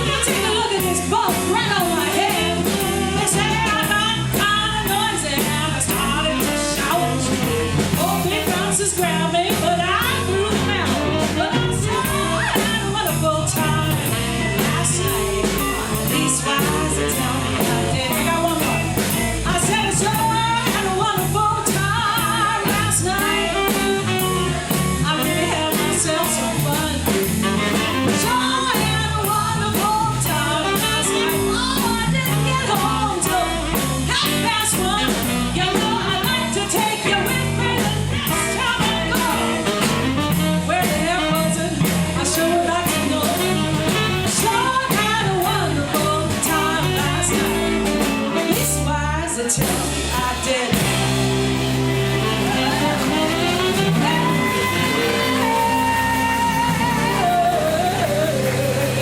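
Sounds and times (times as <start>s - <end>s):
drums and cymbals: 0.0s - 59.0s
live band playing: 0.0s - 59.0s
person singing: 0.0s - 59.0s.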